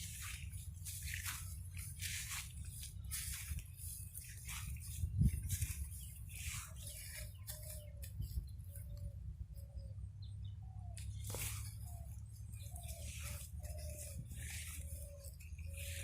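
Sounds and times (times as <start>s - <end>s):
bird calling: 0.0s - 16.0s
steady low rumble: 0.0s - 16.0s.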